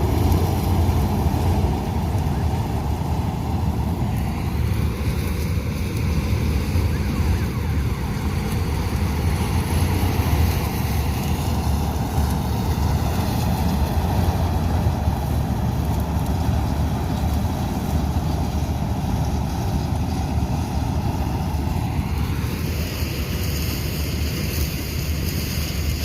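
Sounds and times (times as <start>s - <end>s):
combine harvester rumbling: 0.0s - 26.0s
high machinery whine: 0.0s - 26.0s.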